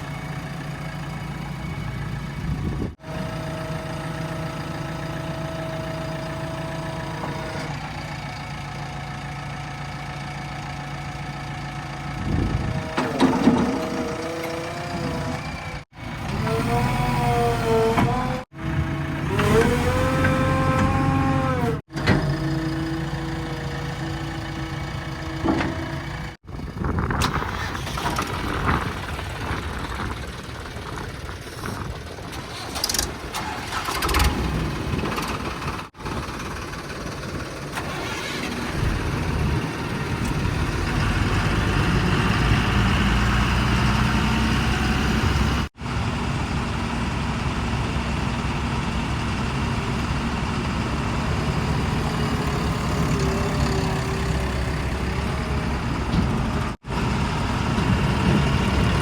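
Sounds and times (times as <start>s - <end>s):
diesel engines running and revving: 0.0s - 59.0s.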